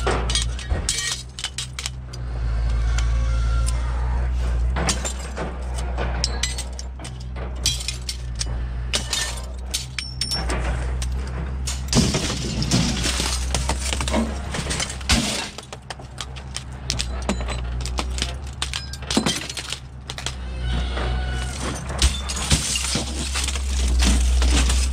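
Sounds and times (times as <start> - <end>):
glass clinking and shattering: 0.0 - 2.1, 4.8 - 15.8, 16.9 - 20.4, 21.4 - 24.9
metal frames clattering: 0.0 - 2.2, 4.6 - 24.9.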